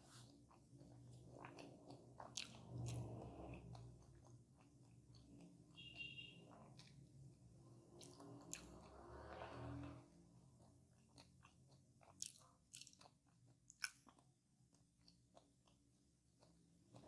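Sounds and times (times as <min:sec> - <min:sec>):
chewing crispy pie: 0:00.0 - 0:17.0.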